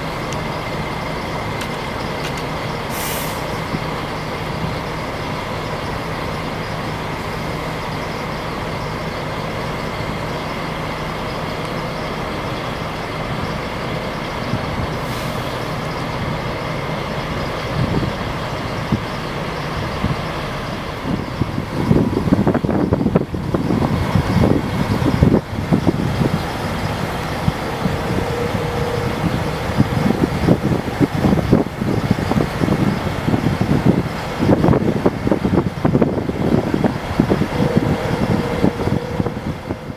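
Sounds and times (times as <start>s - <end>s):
diesel engines idling: 0.0s - 39.9s
rough uneven engine rumble: 0.0s - 39.9s
thin steady tone: 0.0s - 39.9s.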